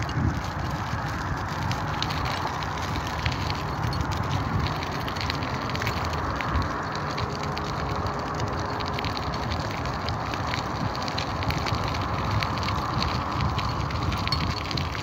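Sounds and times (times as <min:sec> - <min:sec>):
bicycle tyres rushing: 0:00.0 - 0:15.0
grit crackling under wheels: 0:00.0 - 0:15.0
wind on microphone: 0:00.0 - 0:15.0.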